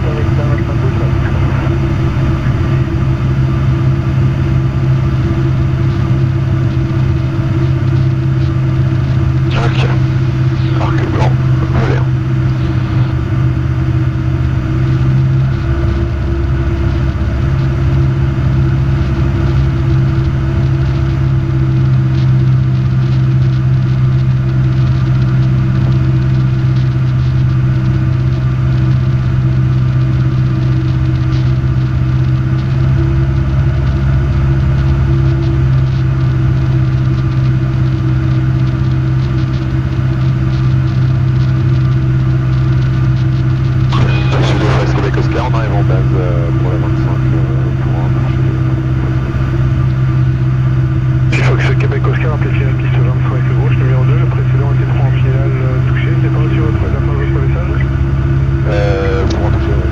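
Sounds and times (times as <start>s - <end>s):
aircraft engine and propeller droning: 0.0s - 59.9s.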